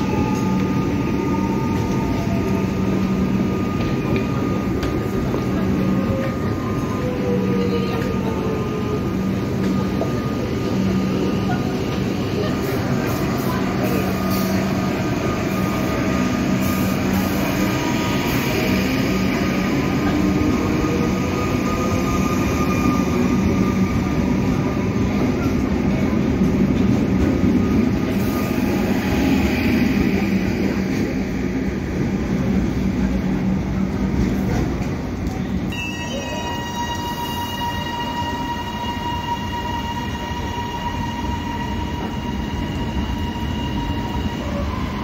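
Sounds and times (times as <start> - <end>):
electric train rumbling and whining: 0.0 - 45.0.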